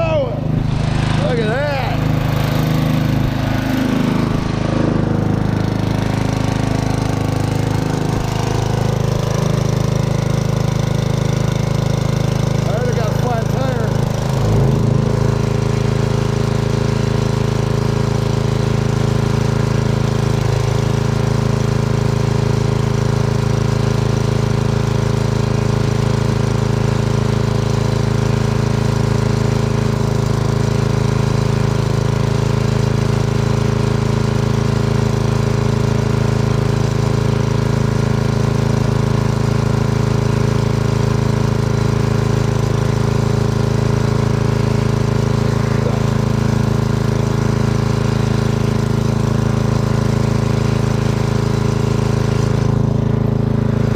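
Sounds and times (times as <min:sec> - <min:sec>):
lawnmower engine running: 0:00.0 - 0:53.9.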